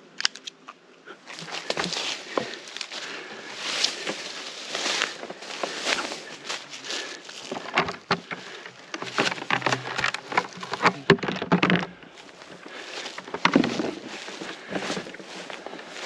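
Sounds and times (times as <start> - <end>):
rustling in woodland litter: 1.2 - 16.0.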